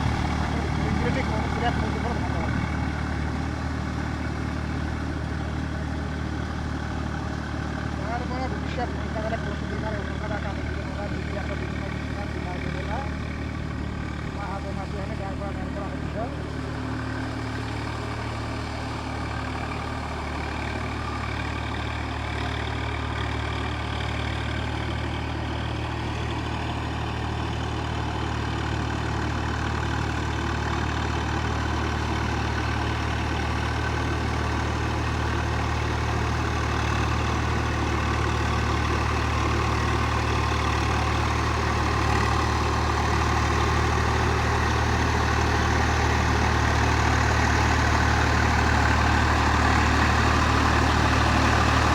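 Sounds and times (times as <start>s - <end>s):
tractor diesel engine droning: 0.0s - 51.9s.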